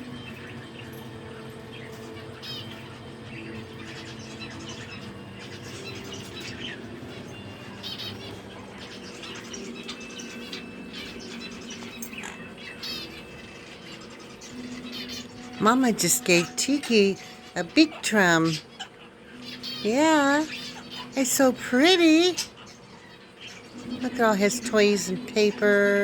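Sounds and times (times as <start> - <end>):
pet birds chirping: 0.0 - 26.0.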